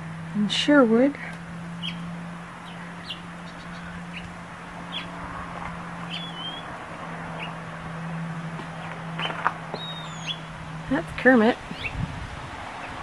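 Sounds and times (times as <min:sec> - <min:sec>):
steady low hum: 0:00.0 - 0:13.0
small birds chirping: 0:01.2 - 0:13.0.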